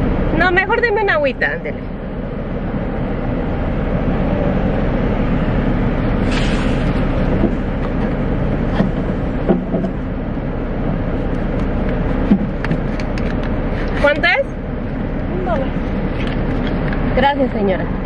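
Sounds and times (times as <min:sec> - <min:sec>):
car idling inside cabin: 0:00.0 - 0:17.8.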